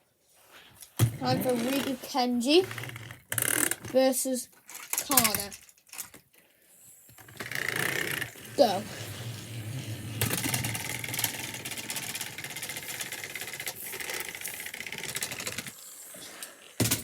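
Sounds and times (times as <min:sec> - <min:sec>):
toy train motors whirring: 0:00.9 - 0:17.0.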